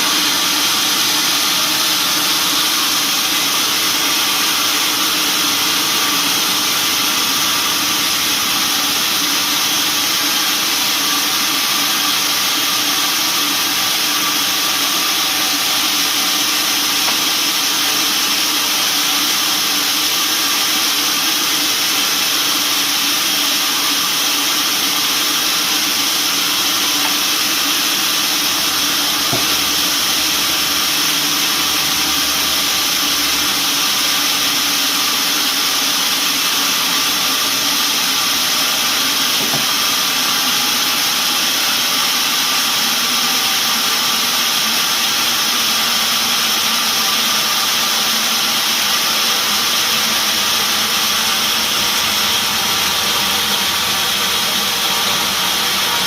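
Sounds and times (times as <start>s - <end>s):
sawmill machinery hissing and whining: 0.0s - 56.0s.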